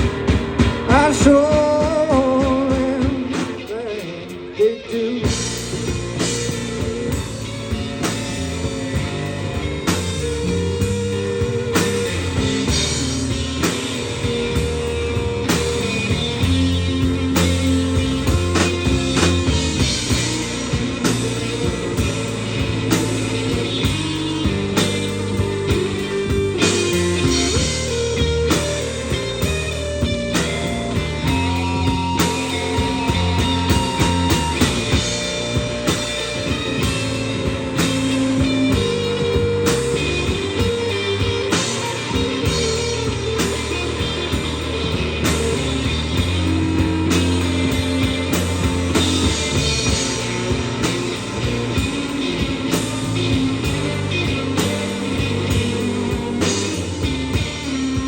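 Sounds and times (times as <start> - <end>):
instrumental rock music: 0.0 - 58.0.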